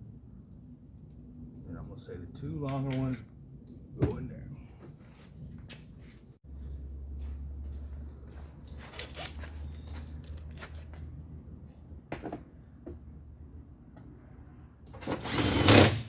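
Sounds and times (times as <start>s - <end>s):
low steady hum: 0.0s - 15.1s.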